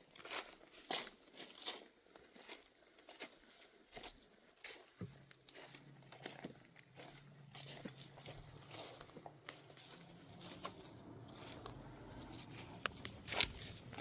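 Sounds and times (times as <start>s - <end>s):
footsteps on leaf litter and twigs: 0.0s - 14.0s.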